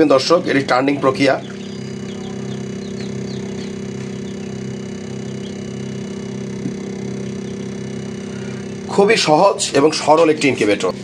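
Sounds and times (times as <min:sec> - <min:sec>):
chicks peeping: 0:00.0 - 0:09.0
incubator motor hum: 0:00.0 - 0:11.0.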